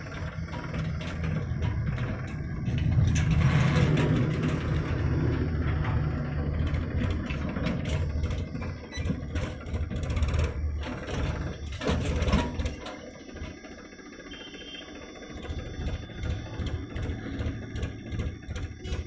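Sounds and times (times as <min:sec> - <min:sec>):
clanks and rattles: 0:00.0 - 0:14.2, 0:15.1 - 0:19.0
diesel engines running: 0:00.0 - 0:19.0.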